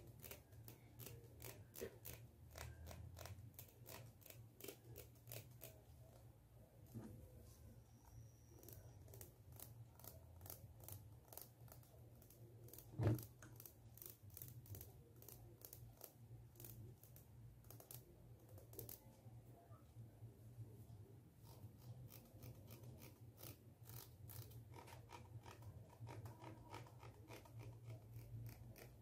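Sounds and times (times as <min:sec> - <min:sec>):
fingers scratching comb teeth: 0:00.0 - 0:05.8, 0:08.6 - 0:19.1, 0:21.4 - 0:29.0
low steady hum: 0:00.0 - 0:29.0.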